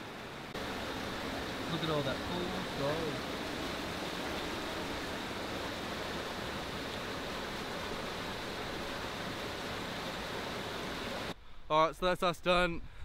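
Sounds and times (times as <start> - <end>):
stream water rushing over rocks: 0.0 - 11.4.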